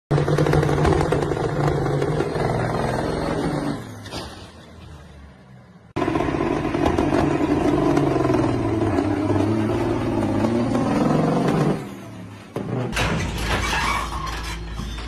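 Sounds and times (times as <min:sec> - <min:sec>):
diesel truck engine droning: 0:00.1 - 0:15.0.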